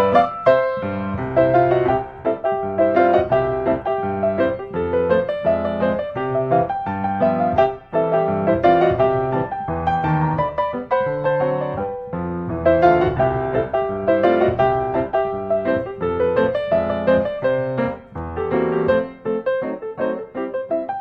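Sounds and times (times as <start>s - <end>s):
piano melody over bass line: 0.0s - 21.0s.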